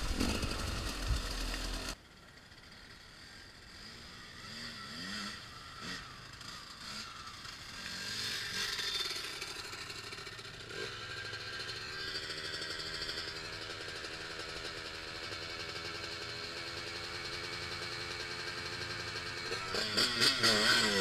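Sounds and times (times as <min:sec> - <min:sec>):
distant off-road engines revving: 0:00.0 - 0:21.0.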